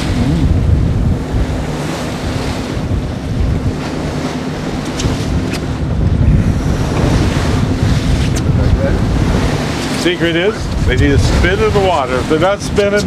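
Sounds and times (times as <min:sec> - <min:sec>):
boat engine droning: 0:00.0 - 0:13.0
water rushing past hull: 0:00.0 - 0:13.0
wind buffeting microphone: 0:00.0 - 0:13.0.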